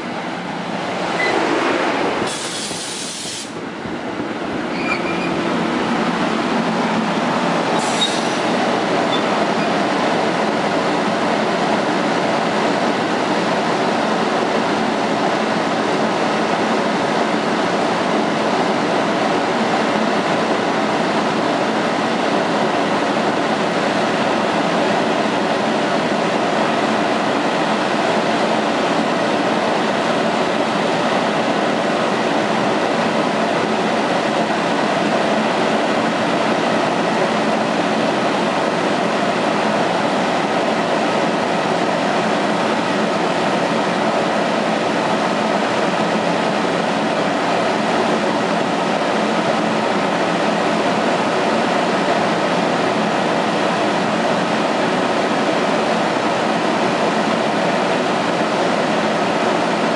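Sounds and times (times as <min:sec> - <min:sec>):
stationary train whir with high whine: 0:00.0 - 0:59.9.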